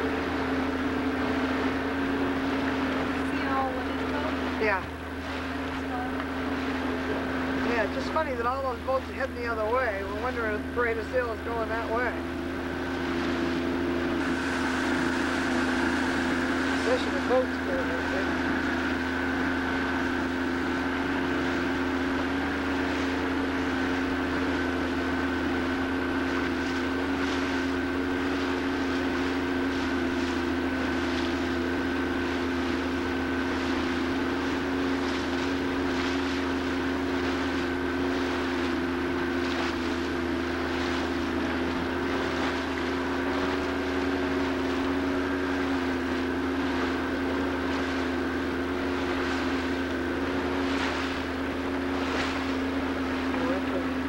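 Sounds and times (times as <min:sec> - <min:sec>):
boat engine drone: 0:00.0 - 0:54.0
high steady whine: 0:00.0 - 0:54.0.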